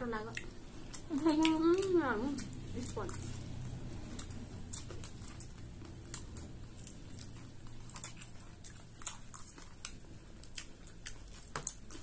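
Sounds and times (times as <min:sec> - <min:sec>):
low steady hum: 0:00.0 - 0:12.0
people chewing crunchy snack: 0:00.0 - 0:12.0.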